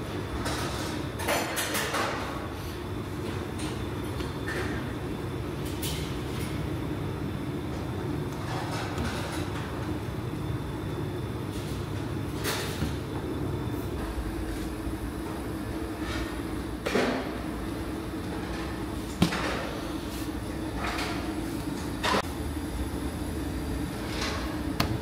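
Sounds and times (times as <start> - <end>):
low kitchen hum: 0.0 - 25.0.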